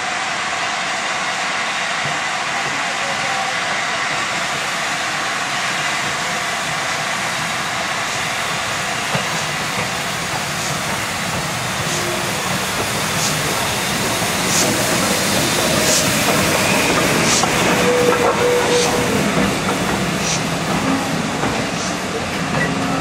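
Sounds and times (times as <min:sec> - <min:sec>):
steam hissing: 0:00.0 - 0:23.0
train rolling noise: 0:00.0 - 0:23.0.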